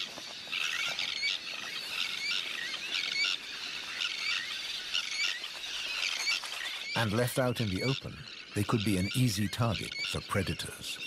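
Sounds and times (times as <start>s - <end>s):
terns calling: 0.0s - 11.0s.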